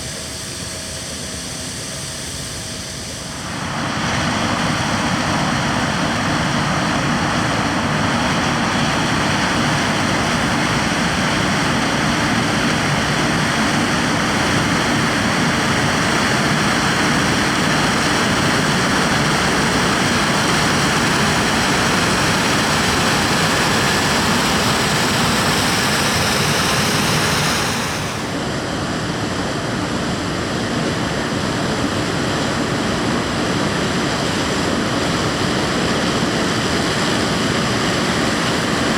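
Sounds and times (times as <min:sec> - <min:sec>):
heavy farm machinery running: 0:00.0 - 0:38.9.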